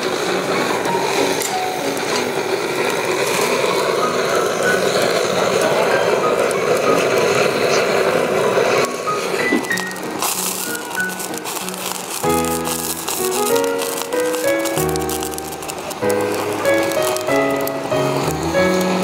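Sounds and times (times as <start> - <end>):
gas torch flame rushing: 0.0 - 19.0.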